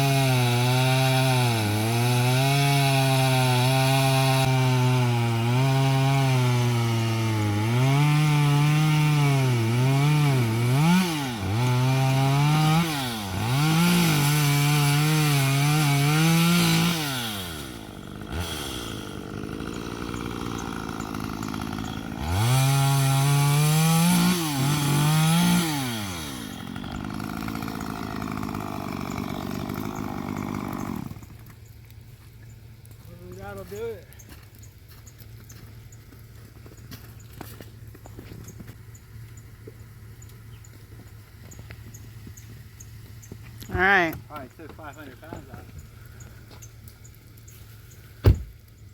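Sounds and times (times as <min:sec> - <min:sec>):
chainsaw cutting log: 0:00.0 - 0:32.0, 0:32.7 - 0:48.8.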